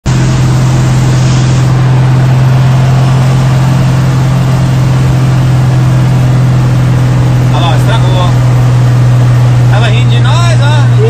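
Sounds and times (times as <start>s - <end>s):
car engine drone: 0.0s - 11.0s
road and wind noise: 0.0s - 11.0s.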